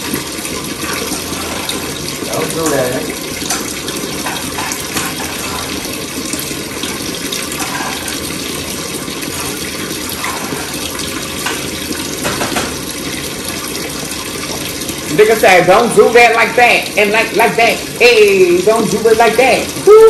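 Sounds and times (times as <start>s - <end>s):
steak sizzling in a frying pan: 0.0s - 20.0s.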